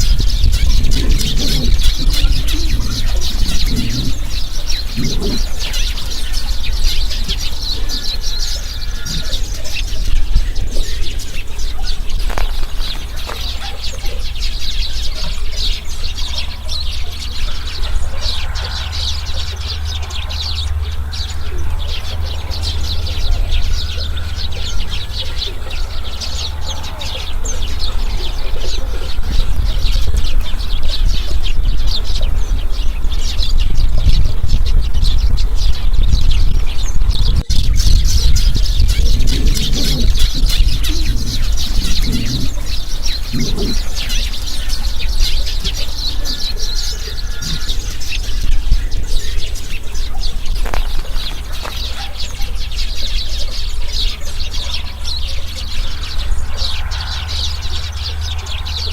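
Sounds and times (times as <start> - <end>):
steady low rumble: 0.0 - 13.6, 14.4 - 58.9
small birds chirping: 0.0 - 58.9.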